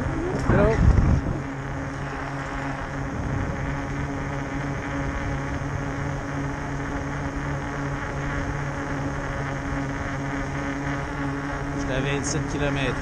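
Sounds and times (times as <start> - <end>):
electric bike motor humming: 0.0 - 13.0
riding noise rush: 0.0 - 13.0.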